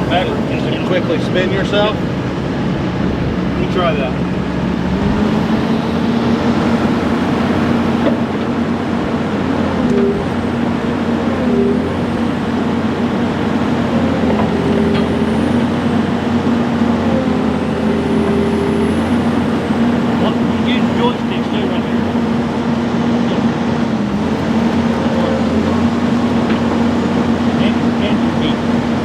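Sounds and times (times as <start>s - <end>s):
higher hydraulic tone: 0.0s - 28.7s
excavator diesel engine running: 0.0s - 29.0s.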